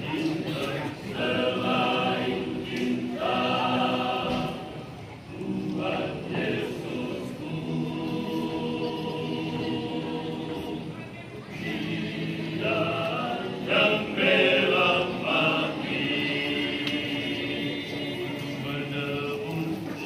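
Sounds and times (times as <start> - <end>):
male choir singing in harmony: 0.0 - 20.0.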